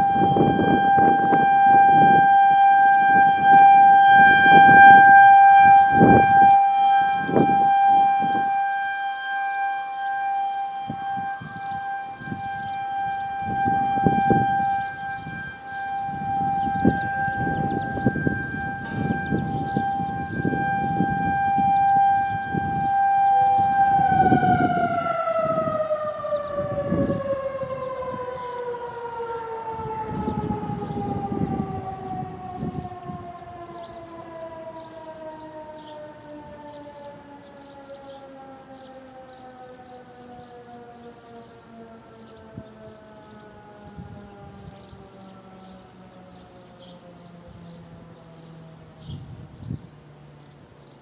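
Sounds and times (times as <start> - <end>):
warning siren steady tone winding down: 0.0 - 51.0.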